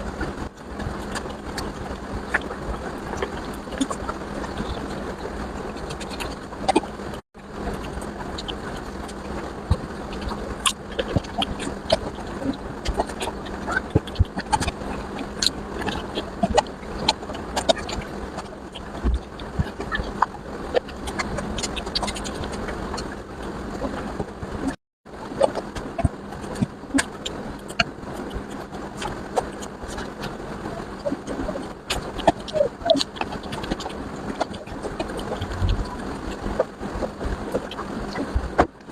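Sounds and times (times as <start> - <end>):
chewing with mouth clicks: 0.0 - 24.8, 25.4 - 38.8.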